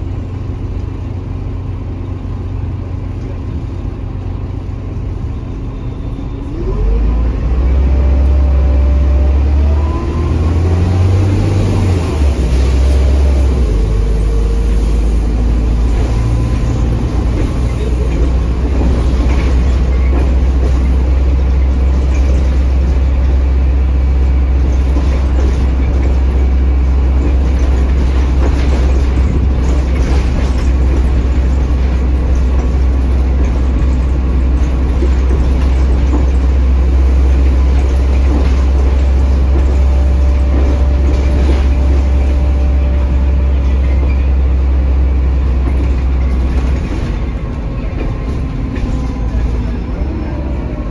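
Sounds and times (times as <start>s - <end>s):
bus engine accelerating: 0.0s - 50.9s.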